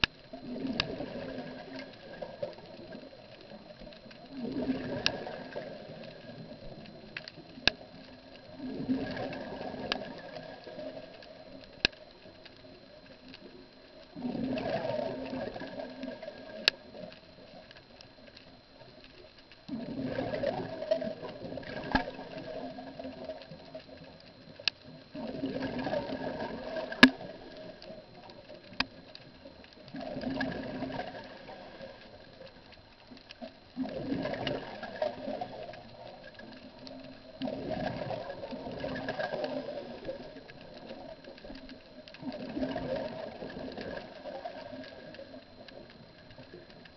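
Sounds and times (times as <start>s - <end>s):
exhaled bubbles underwater: 0.0s - 46.9s.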